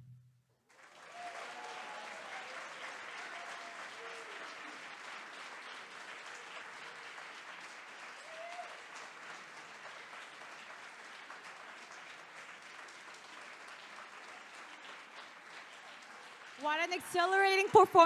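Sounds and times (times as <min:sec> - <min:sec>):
audience applauding: 0:00.7 - 0:18.0.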